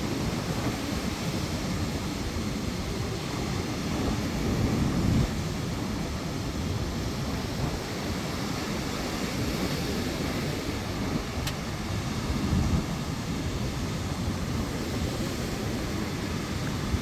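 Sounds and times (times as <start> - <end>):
surf washing: 0.0 - 17.0
wind rumbling on microphone: 0.0 - 17.0.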